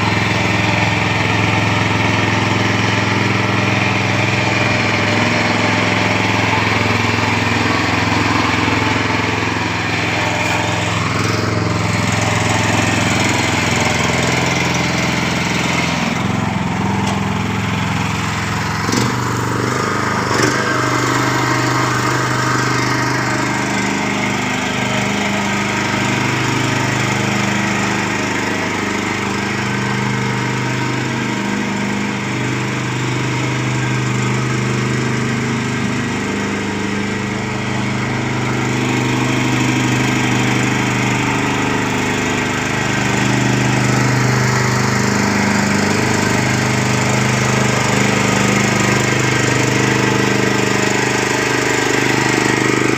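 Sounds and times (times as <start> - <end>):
small engine running under load: 0.0 - 52.9.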